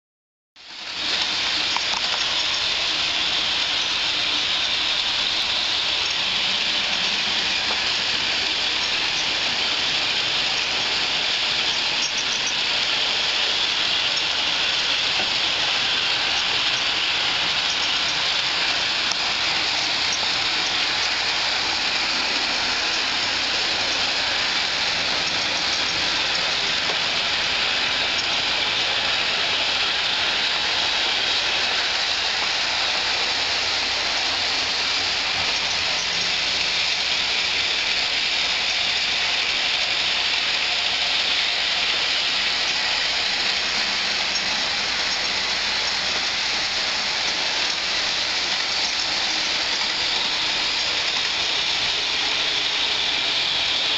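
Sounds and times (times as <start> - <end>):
model train running on track: 0.6 - 53.9.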